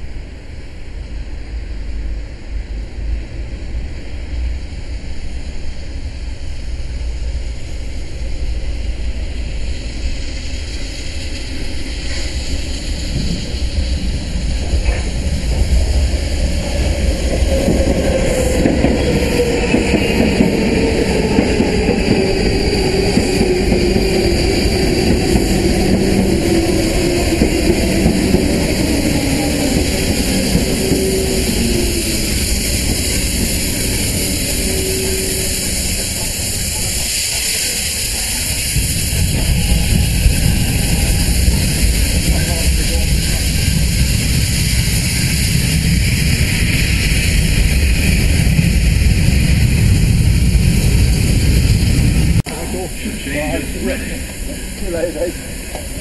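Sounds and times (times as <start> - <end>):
rail rumble: 0.0 - 56.0.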